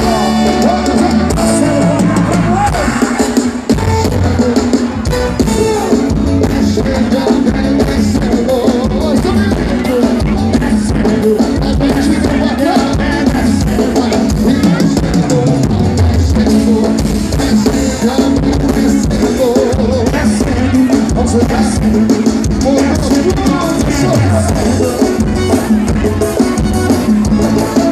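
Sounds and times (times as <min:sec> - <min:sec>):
drum kit beat: 0:00.0 - 0:27.9
live band music: 0:00.0 - 0:27.9.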